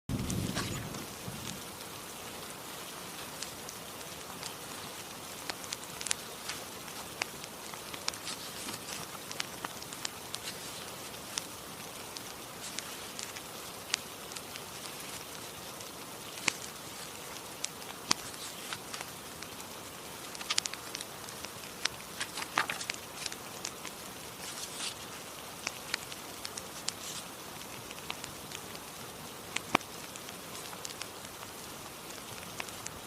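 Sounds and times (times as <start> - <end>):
fireplace crackling: 0.1 - 33.0.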